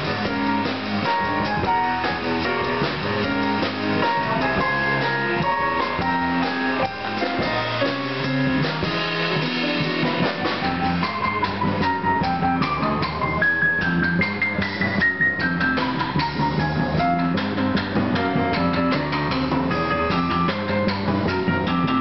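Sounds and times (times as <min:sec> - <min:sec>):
drum kit: 0:00.0 - 0:22.0
keyboard: 0:00.0 - 0:22.0
upright double bass: 0:00.0 - 0:22.0.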